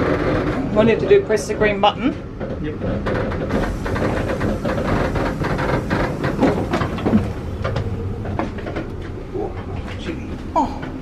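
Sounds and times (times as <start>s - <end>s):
train carriages rumbling and rattling: 0.0s - 11.0s.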